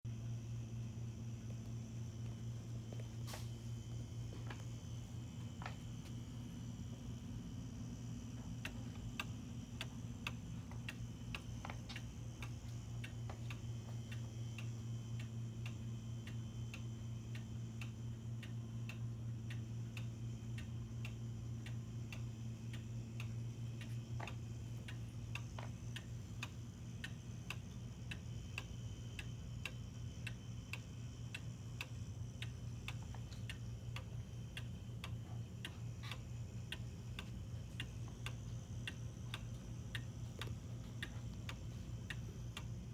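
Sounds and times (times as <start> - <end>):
low steady hum: 0.1 - 42.9
clock ticking: 4.5 - 42.9.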